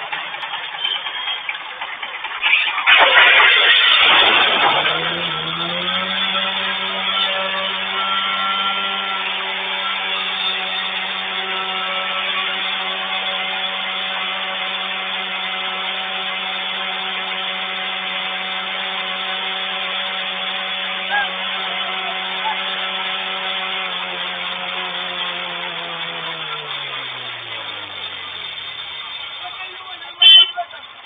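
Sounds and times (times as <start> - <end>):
motor running steadily: 0.0 - 31.0.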